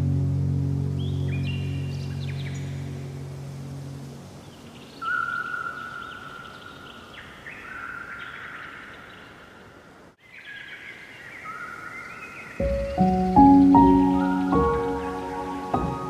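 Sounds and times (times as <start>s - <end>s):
songbirds singing: 1.0s - 3.2s, 4.3s - 16.0s.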